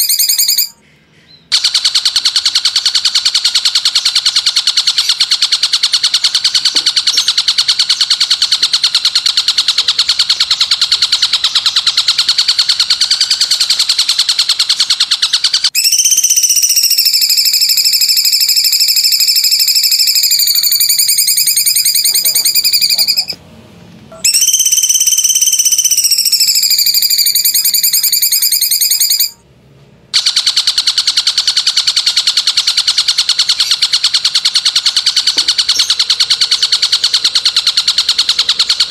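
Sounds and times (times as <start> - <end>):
high trilled bird call: 0.0 - 23.4, 24.1 - 29.4, 30.2 - 38.9.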